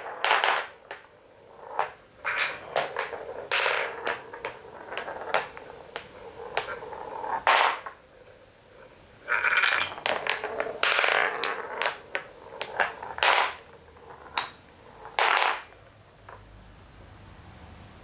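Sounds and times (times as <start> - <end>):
wooden balls rolling on a track: 0.0 - 16.5.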